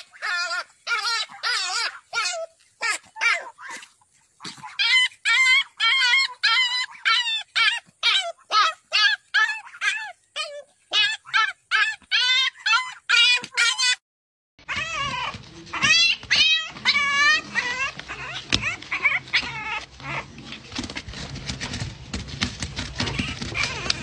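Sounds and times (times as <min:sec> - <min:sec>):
puppies whining and squealing: 0:00.0 - 0:03.9, 0:04.5 - 0:14.0, 0:14.6 - 0:24.0
puppies yelping: 0:00.0 - 0:14.0, 0:14.6 - 0:24.0.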